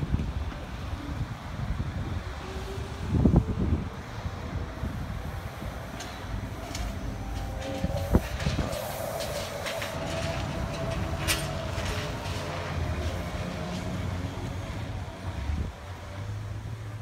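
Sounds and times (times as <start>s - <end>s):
street traffic rumble: 0.0s - 17.0s
trolleybus motor whine: 0.0s - 17.0s.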